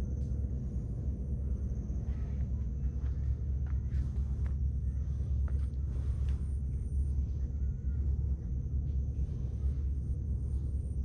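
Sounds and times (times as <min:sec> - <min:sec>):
low microphone rumble: 0:00.0 - 0:11.0.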